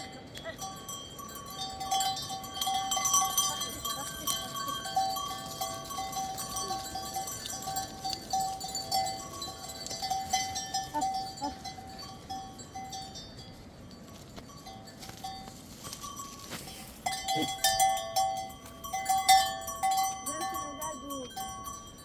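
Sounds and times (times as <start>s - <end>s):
animal bells clanking and jingling: 0.0s - 22.0s.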